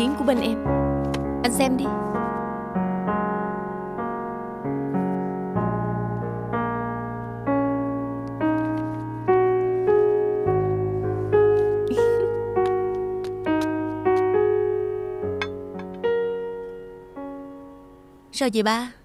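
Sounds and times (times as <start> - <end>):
slow piano music: 0.0 - 18.4.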